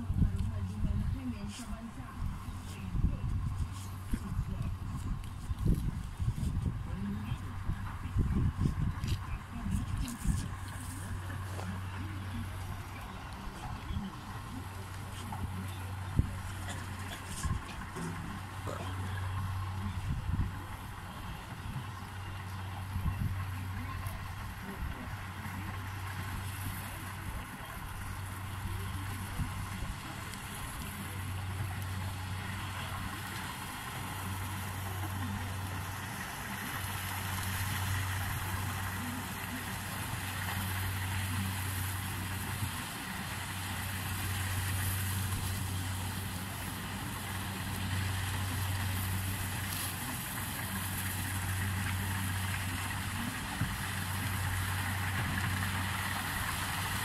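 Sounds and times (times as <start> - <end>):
harvester engine hum: 0.0 - 57.0
steady mechanical hiss: 0.0 - 57.0.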